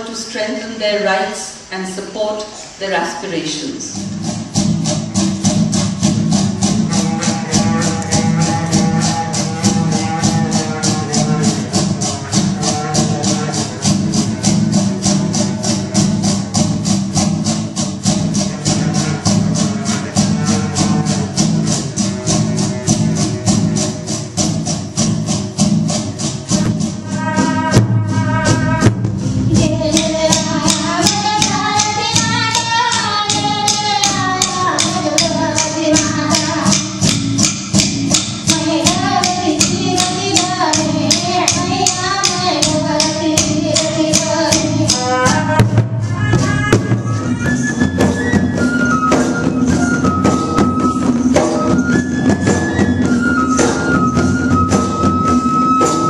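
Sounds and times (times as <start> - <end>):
rattles and shakers beat: 3.9 - 56.0.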